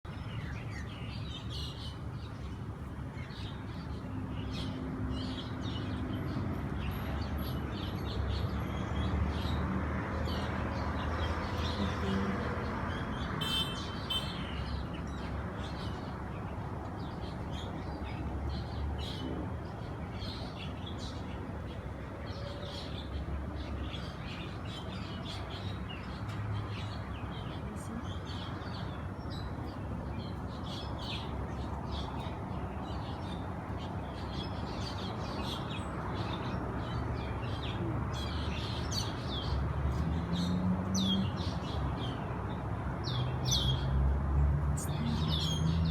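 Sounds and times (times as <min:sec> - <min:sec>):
birds chirping: 0:03.2 - 0:44.0.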